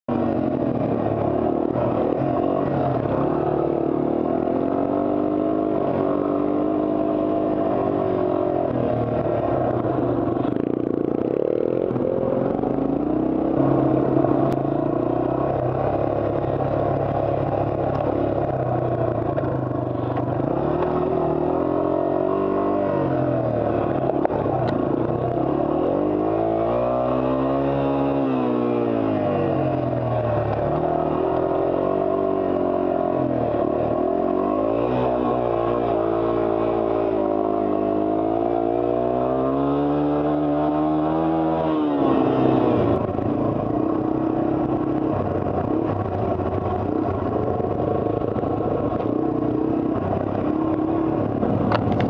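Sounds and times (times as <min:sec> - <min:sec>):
motorcycle engine revving: 0:00.1 - 0:52.0.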